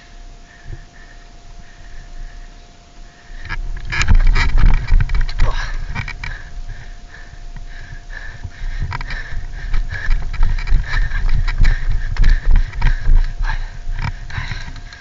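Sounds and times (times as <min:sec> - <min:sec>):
person breathing hard: 0:00.0 - 0:03.7, 0:05.3 - 0:15.0.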